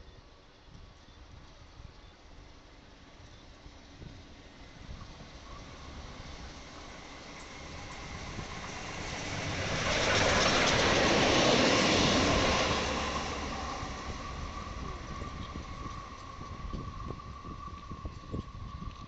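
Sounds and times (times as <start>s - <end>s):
train wheel and rail noise: 0.0s - 19.0s.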